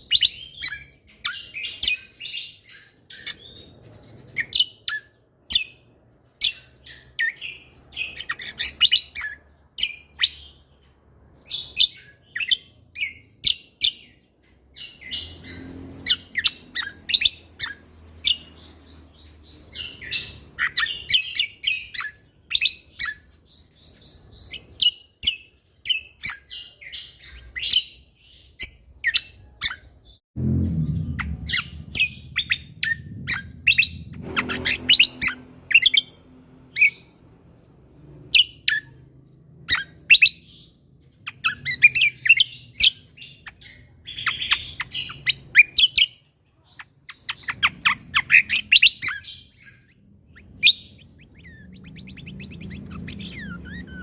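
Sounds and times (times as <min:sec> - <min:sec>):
songbird chirping and trilling: 0:00.0 - 0:54.0.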